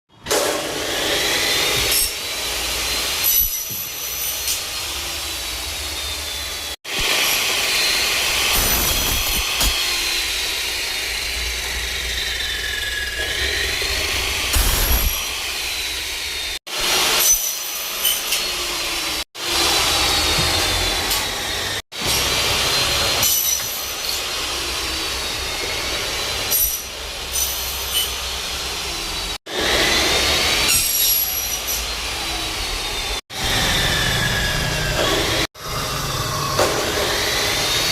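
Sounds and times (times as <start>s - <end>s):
power saw cutting metal: 0.2s - 37.9s.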